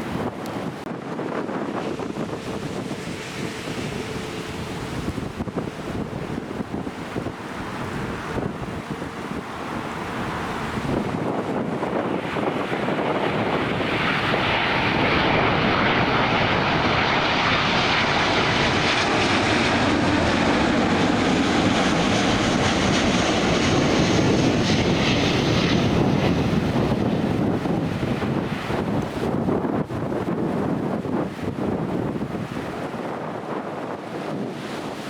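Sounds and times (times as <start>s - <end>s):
jet airliner passing: 0.0s - 35.0s.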